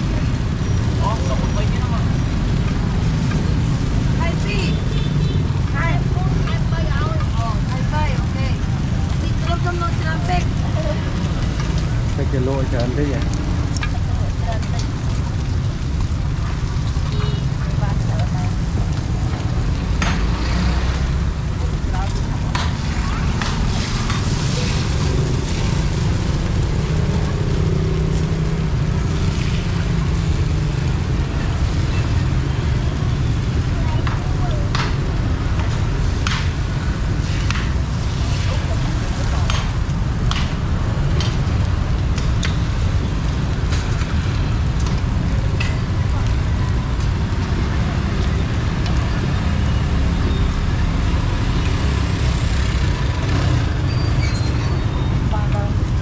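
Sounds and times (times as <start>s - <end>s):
low rumble of traffic: 0.0s - 56.0s.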